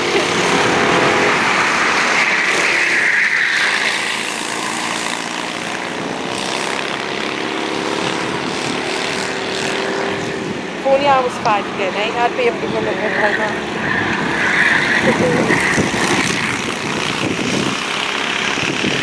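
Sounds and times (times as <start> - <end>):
racing kart engines buzzing: 0.0 - 19.0.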